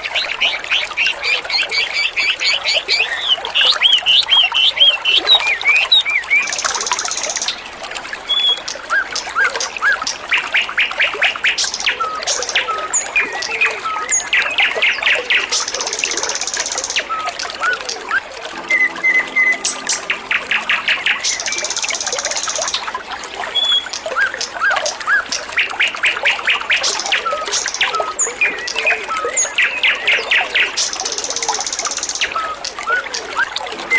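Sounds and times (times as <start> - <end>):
songbird singing: 0.0 - 7.6, 8.3 - 33.9
trickling water: 0.0 - 33.9.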